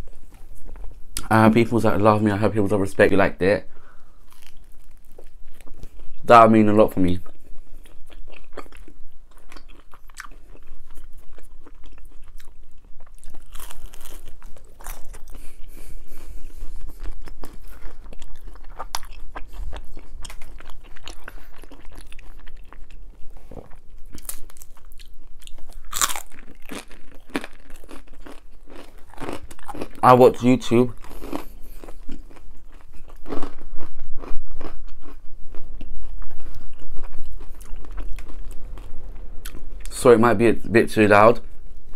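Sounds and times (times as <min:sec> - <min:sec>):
person chewing crunchy crust: 0:03.8 - 0:40.0.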